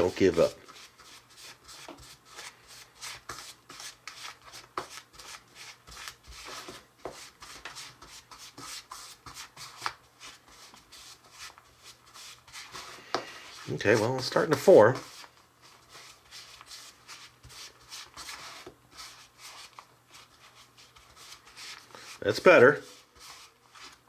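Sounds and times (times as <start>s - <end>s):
fingers rubbing dough in plastic bowl: 0.0s - 24.0s.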